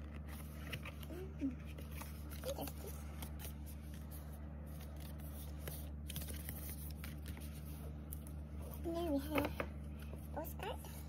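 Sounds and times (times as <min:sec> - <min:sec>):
cardstock rustling and clicking: 0:00.0 - 0:10.2
steady low hum: 0:00.0 - 0:11.0.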